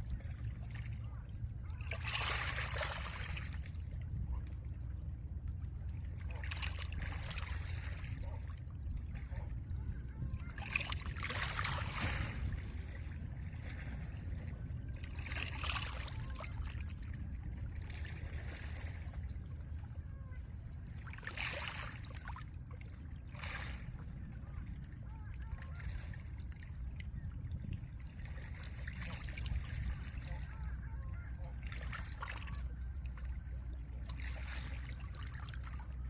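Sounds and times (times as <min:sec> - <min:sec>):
low rumble of wind and surf: 0:00.0 - 0:36.0.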